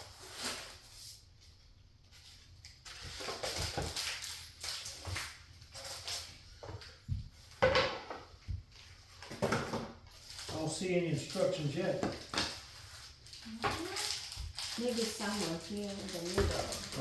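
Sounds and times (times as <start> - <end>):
cardboard and foam rustling: 0.0 - 17.0.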